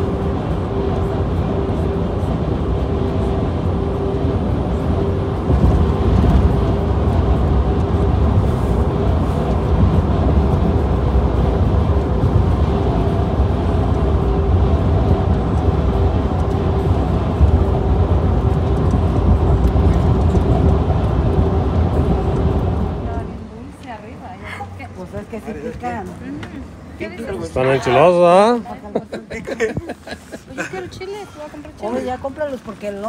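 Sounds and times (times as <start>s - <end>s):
vehicle road rumble: 0.0s - 33.0s.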